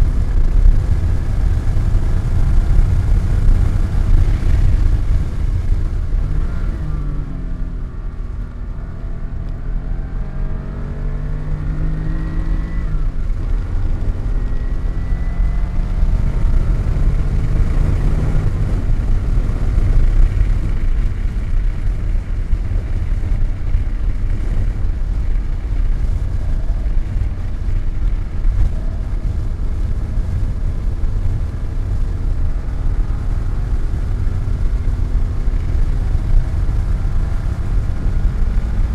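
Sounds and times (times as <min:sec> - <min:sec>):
car engine accelerating: 0:00.0 - 0:38.9
heavy low rumble: 0:00.0 - 0:38.9.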